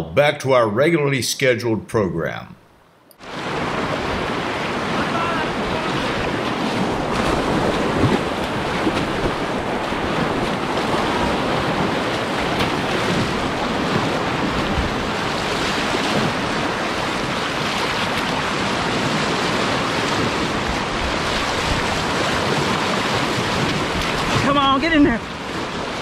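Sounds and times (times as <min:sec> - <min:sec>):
river rapids rushing: 0:03.2 - 0:26.0.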